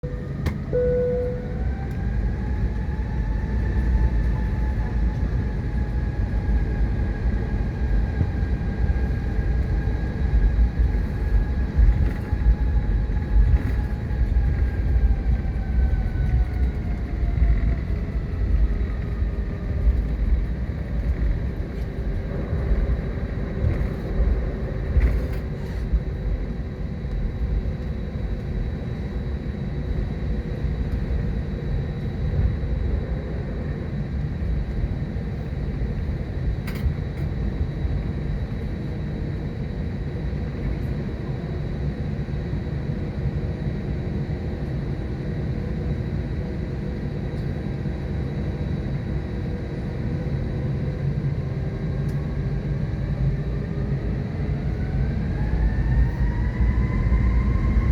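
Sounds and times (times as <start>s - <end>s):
jet engine and airframe rumble: 0.0s - 57.9s.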